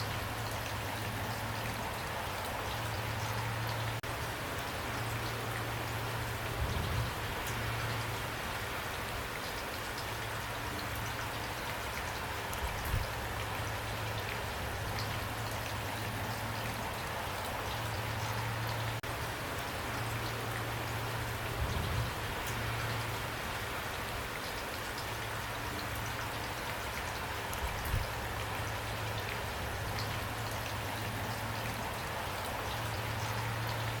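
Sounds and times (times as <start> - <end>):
raindrops striking: 0.0 - 34.0
steady rain falling: 0.0 - 34.0.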